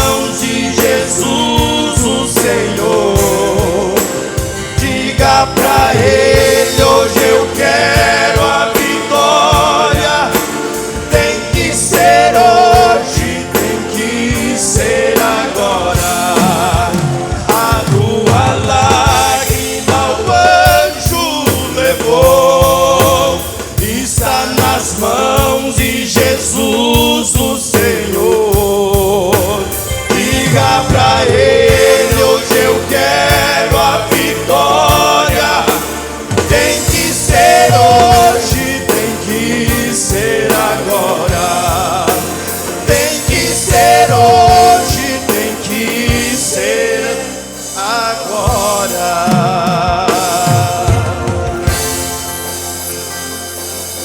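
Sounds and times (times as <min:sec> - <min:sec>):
band with steady beat: 0:00.0 - 0:54.0
gospel singing voices: 0:00.0 - 0:54.0.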